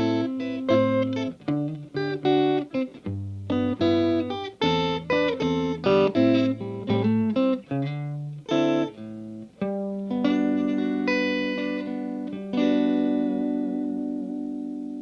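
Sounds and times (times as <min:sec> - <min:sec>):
clean electric guitar playing: 0:00.0 - 0:15.0.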